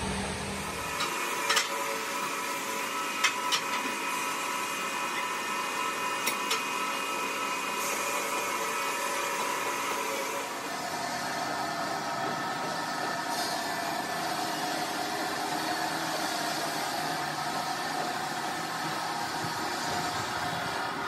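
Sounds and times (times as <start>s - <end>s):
mechanical hum with high whine: 0.0s - 21.0s.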